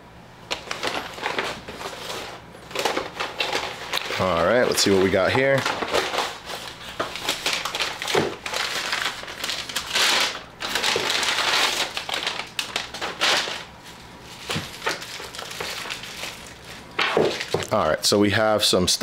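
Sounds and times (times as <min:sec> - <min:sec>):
packaging crinkling and rustling: 0:00.5 - 0:17.9.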